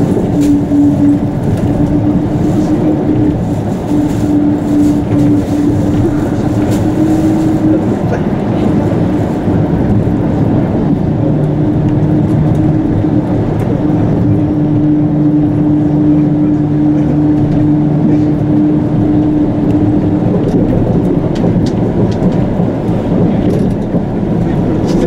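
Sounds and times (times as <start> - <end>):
monorail running rumble: 0.0 - 25.0.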